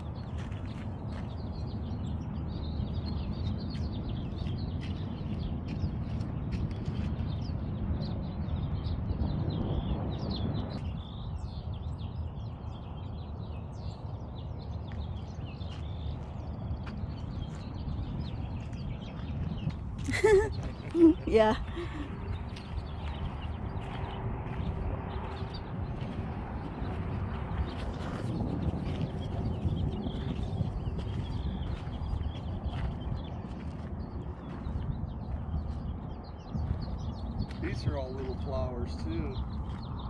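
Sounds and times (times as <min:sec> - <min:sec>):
small birds chirping: 0:00.0 - 0:40.0
steady low rumble: 0:00.0 - 0:40.0.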